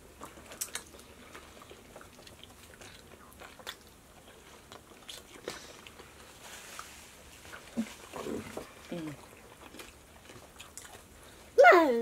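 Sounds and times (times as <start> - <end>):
faint chewing and biting: 0.0 - 11.6.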